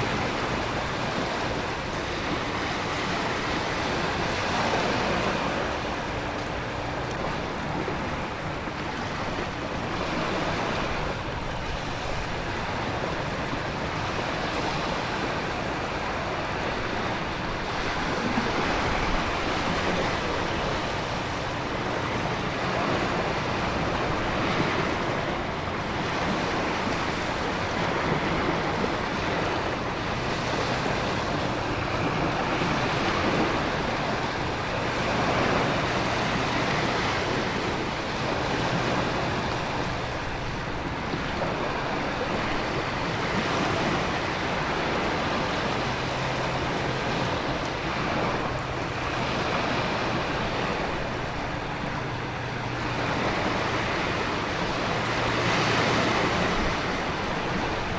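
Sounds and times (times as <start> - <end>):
ocean waves: 0.0 - 57.9
wind: 0.0 - 57.9.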